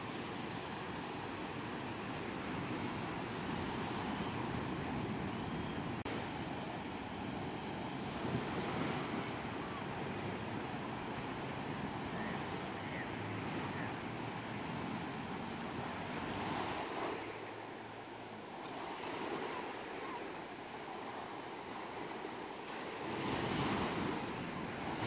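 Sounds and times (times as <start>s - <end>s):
small waves breaking on beach: 0.0s - 25.0s.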